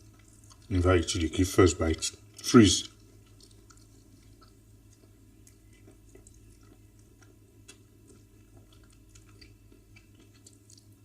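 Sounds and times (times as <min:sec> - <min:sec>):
wet eating squishes: 0:00.0 - 0:01.4, 0:02.1 - 0:11.0
low steady hum: 0:00.0 - 0:11.0.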